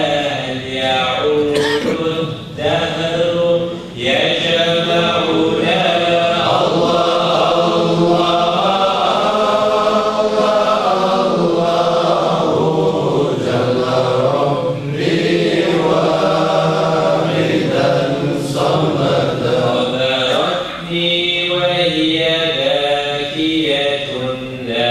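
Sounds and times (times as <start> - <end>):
men chanting in unison: 0.0 - 24.9.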